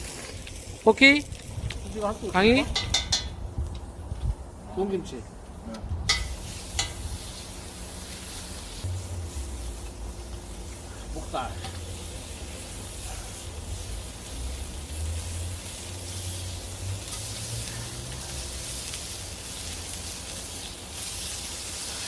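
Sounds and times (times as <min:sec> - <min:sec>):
meat sizzling on hot metal: 0:00.0 - 0:05.2, 0:06.0 - 0:22.0.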